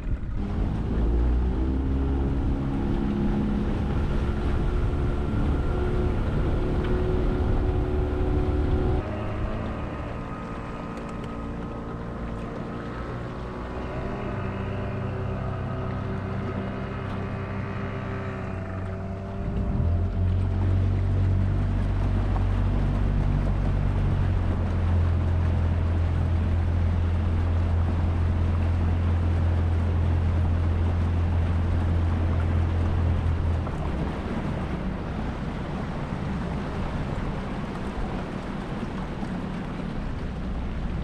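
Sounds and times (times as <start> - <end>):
outboard motor drone: 0.0 - 41.0
water rushing: 0.0 - 41.0
wind: 0.0 - 41.0.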